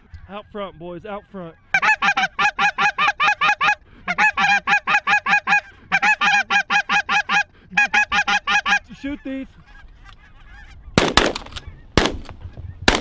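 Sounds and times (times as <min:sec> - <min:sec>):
goose honking: 0:00.0 - 0:11.0.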